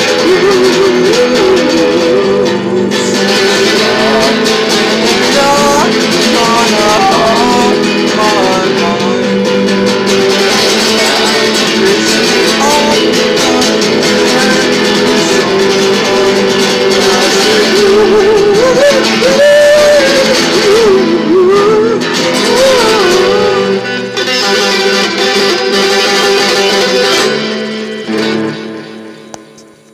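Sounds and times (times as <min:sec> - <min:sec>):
man singing: 0:00.0 - 0:27.4
guitar playing: 0:00.0 - 0:29.9.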